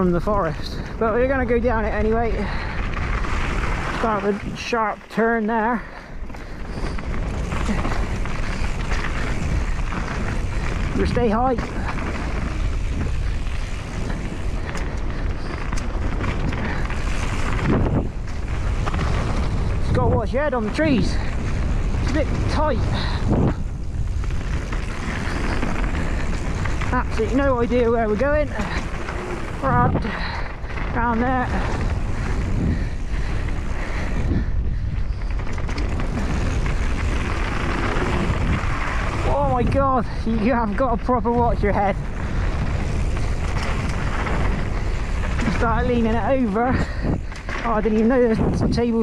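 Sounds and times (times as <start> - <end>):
bike rattling over ground: 0.0 - 49.0
bike tyre noise: 0.0 - 49.0
wind rumble on microphone: 0.0 - 49.0.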